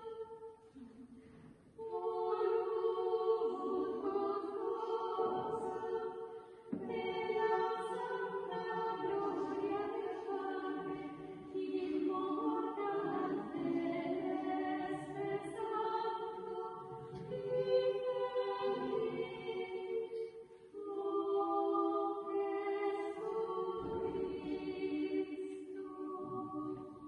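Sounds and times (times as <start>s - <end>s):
choral singing: 0.0s - 27.0s.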